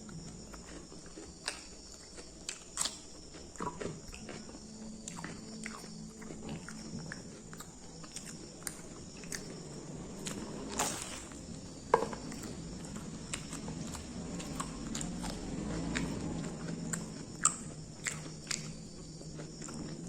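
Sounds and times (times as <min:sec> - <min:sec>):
crunchy bites and chewing: 0:00.0 - 0:20.0.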